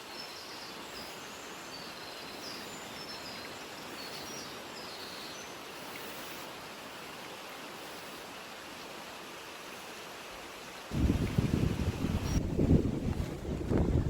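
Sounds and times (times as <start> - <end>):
stream rushing: 0.0 - 14.0.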